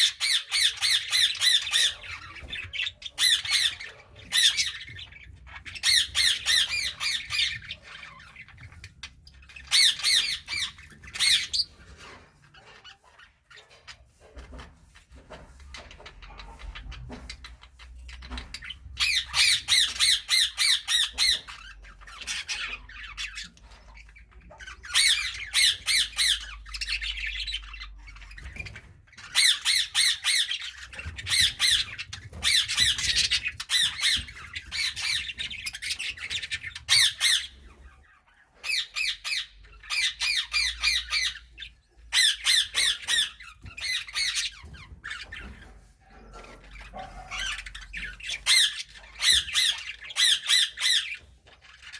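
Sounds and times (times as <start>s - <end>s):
budgerigars chirping: 0.0s - 51.9s.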